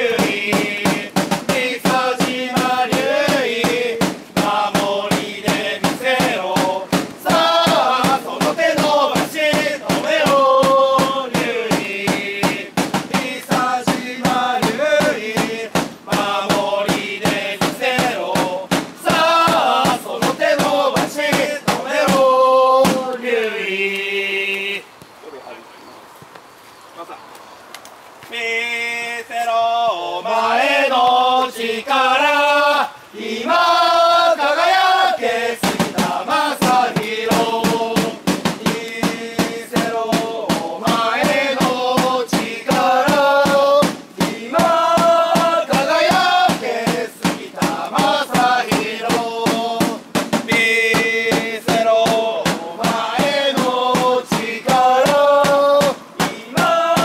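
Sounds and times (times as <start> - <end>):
drum beating steadily: 0.0 - 23.3, 33.4 - 57.0
men singing a supporters' chant: 0.0 - 24.9, 28.3 - 57.0.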